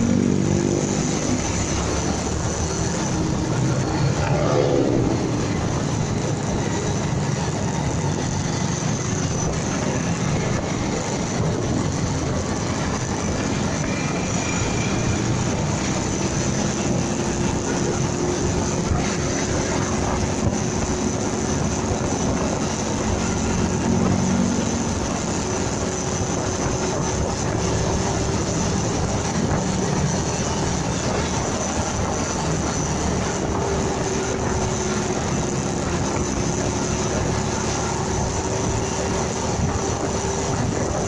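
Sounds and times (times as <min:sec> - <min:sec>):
motorcycle engine: 0:00.0 - 0:41.0
wind rush on microphone: 0:00.0 - 0:41.0.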